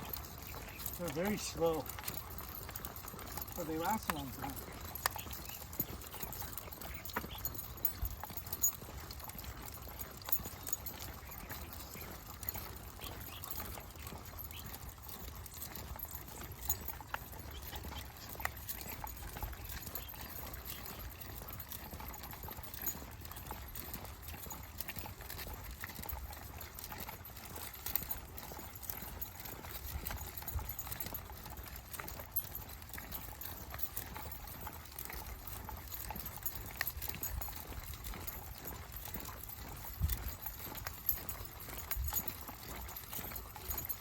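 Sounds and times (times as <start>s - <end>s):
footsteps of person and dogs: 0.0s - 44.0s.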